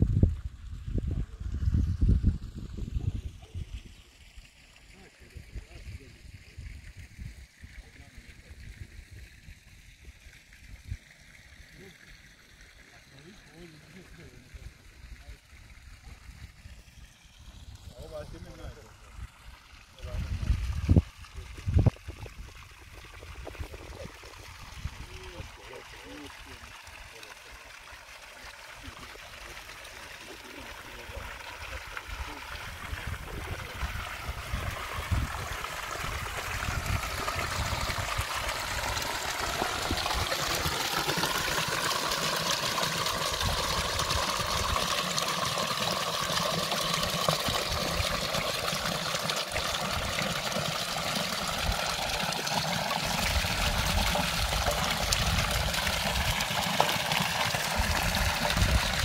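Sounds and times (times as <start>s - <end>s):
water splashing into fountain trough: 0.0s - 59.0s.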